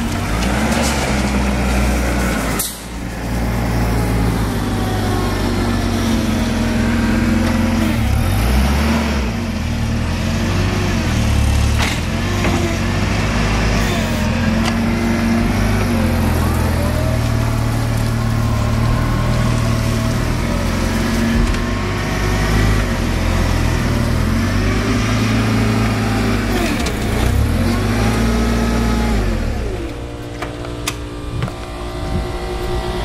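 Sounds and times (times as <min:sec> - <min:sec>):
forklift engine revving and idling: 0:00.0 - 0:33.0.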